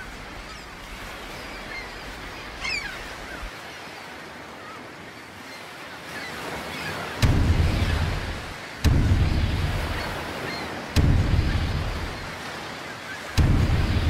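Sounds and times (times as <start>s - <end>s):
bird calls: 0.0s - 14.0s
sea surf: 0.0s - 14.0s.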